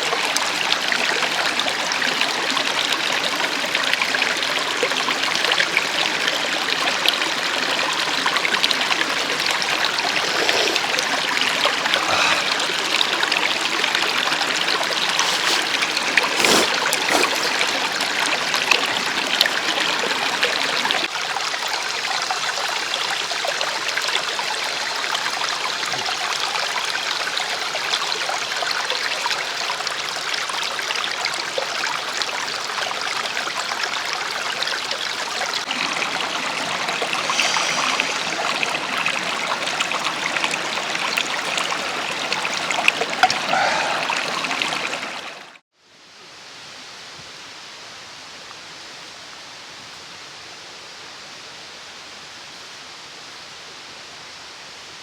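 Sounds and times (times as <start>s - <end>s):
stream running over rocks: 0.0s - 45.6s.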